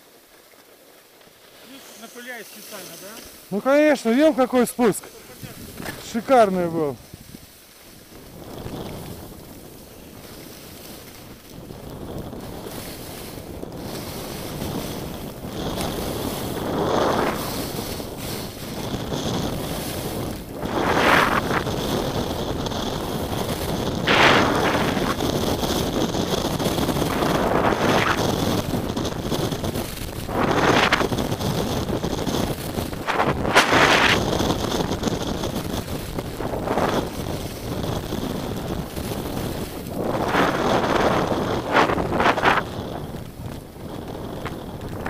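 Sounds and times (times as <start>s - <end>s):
skis scraping packed snow: 0.0s - 45.0s
wind rushing over microphone: 1.8s - 45.0s.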